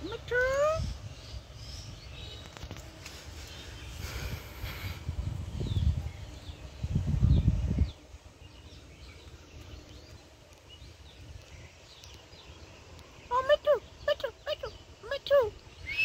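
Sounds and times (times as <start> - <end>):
low rumbling on microphone: 0.0 - 14.1.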